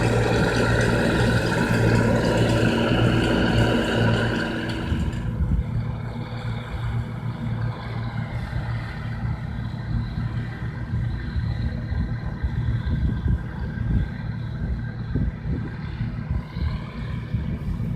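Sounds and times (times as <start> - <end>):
combine harvester diesel engine: 0.0 - 17.9.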